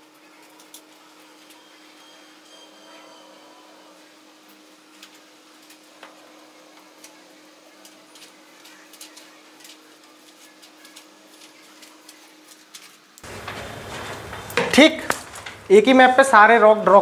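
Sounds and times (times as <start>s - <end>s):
low room hum: 0.0s - 16.6s.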